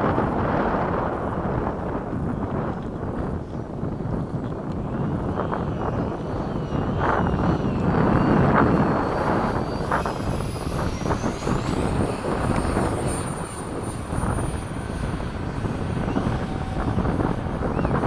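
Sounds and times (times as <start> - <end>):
model jet engine whine: 0.0 - 18.0
wind buffeting microphone: 0.0 - 18.0.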